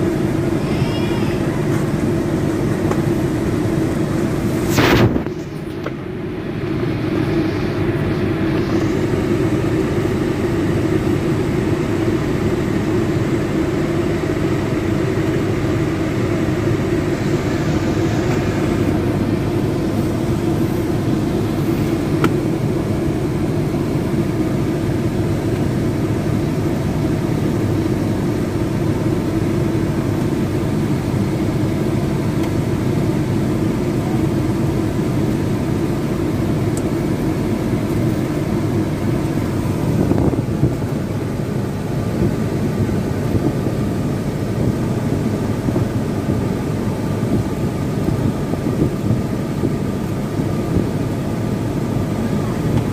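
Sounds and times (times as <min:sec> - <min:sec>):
mechanical hum and rumble: 0:00.0 - 0:52.9.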